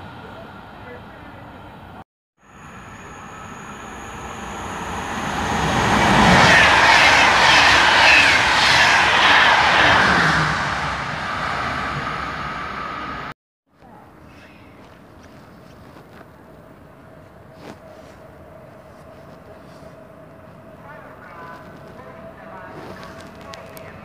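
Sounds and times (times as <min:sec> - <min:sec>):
passenger train passing: 0:00.0 - 0:13.4, 0:16.3 - 0:24.0.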